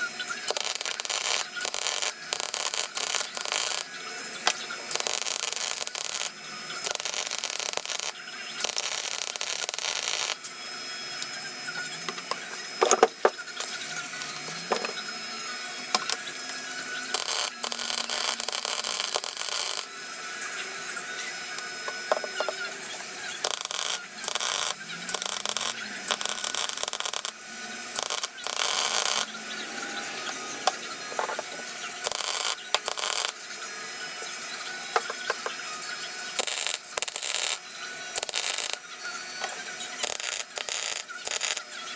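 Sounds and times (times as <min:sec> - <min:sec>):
welding arc buzzing: 0:00.0 - 0:41.9.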